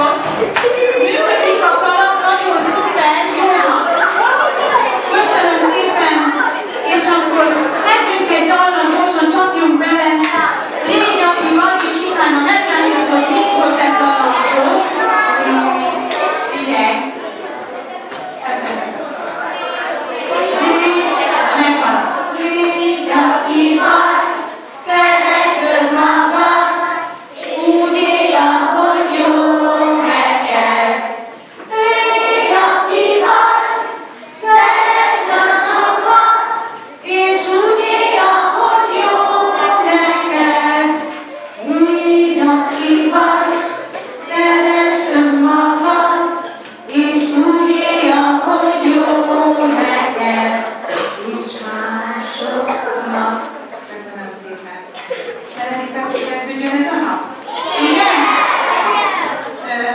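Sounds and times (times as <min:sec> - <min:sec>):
children singing in unison: 0:00.0 - 0:53.9, 0:57.2 - 0:59.9.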